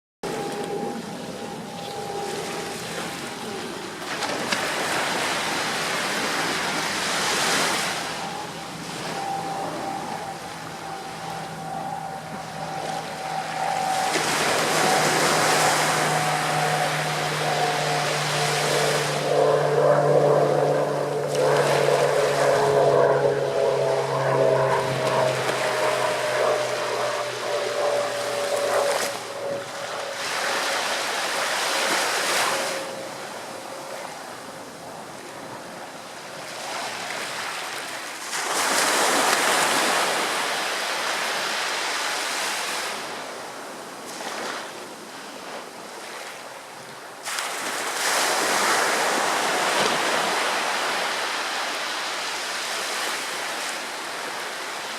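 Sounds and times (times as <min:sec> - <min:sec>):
ocean surf breaking: 0:00.2 - 0:44.7, 0:47.2 - 0:54.9
droning hum falling in pitch: 0:00.2 - 0:54.9.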